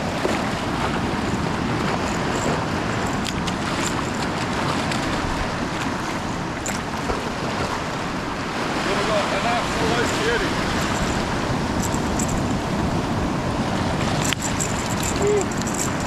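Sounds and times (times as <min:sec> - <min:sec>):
surf washing over reef: 0:00.0 - 0:16.0
wind buffeting microphone: 0:00.0 - 0:16.0.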